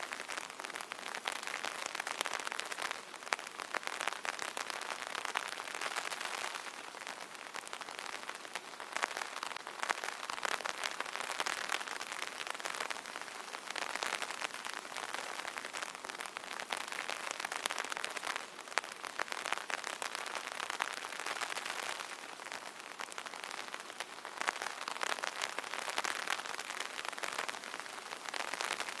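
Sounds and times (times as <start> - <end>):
rain pattering on umbrella: 0.0 - 29.0.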